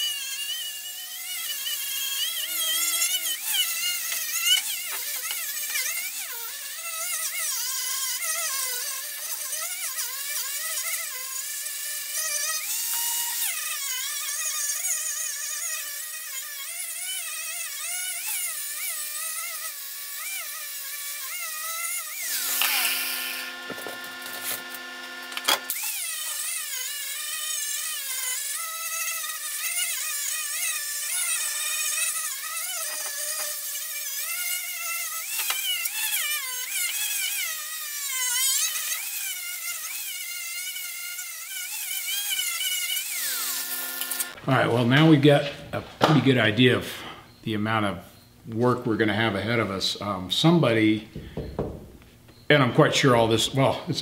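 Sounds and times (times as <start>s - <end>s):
angle grinder on metal: 0.0s - 44.4s.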